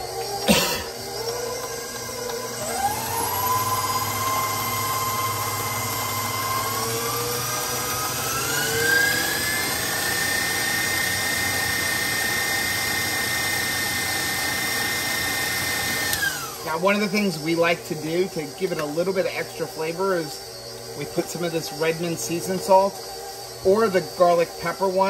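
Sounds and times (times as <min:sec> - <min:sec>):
stand mixer motor whining: 0:00.0 - 0:25.0.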